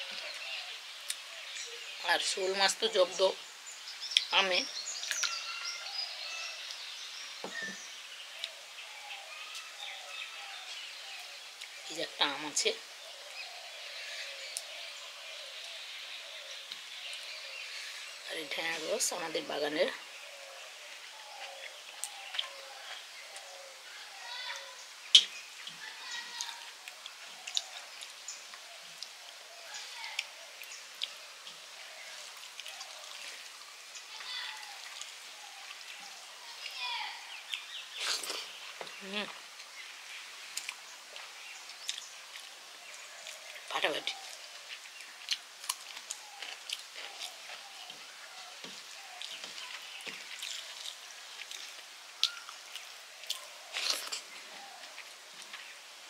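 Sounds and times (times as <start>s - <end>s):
birds chirping and calling: 0.0s - 55.8s
outdoor background noise: 0.0s - 56.0s.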